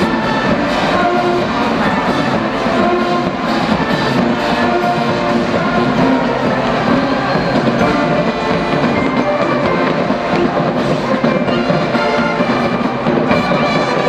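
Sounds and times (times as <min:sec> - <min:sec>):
marching band brass and drums: 0:00.0 - 0:14.0.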